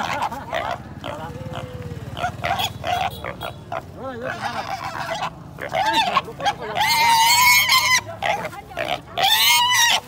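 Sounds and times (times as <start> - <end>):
pig grunting and squealing: 0.0 - 10.0.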